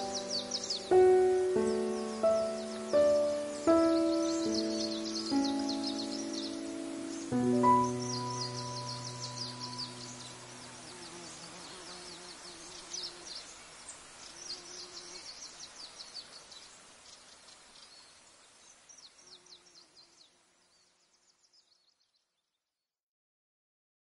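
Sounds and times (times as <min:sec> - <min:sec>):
insects chirping: 0:00.0 - 0:21.3.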